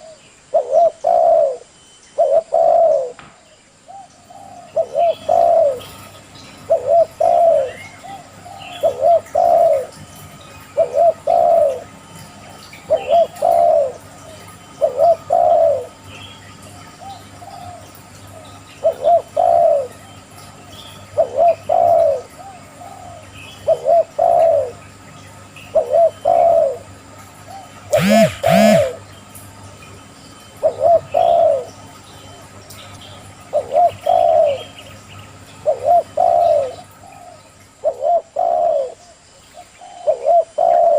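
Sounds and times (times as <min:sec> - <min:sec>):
dove cooing: 0:00.0 - 0:03.2, 0:03.9 - 0:29.2, 0:30.6 - 0:40.9
harsh bird calls: 0:03.9 - 0:40.9.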